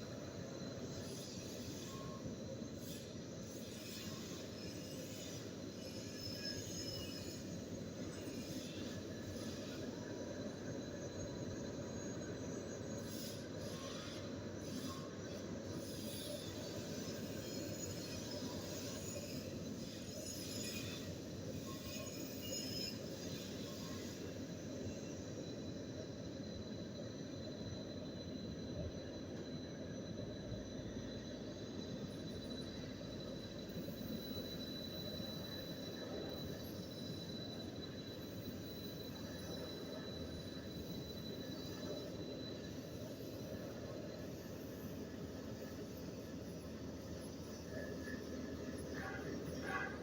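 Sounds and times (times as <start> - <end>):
faint high squeaks and clinks: 0.0 - 50.0.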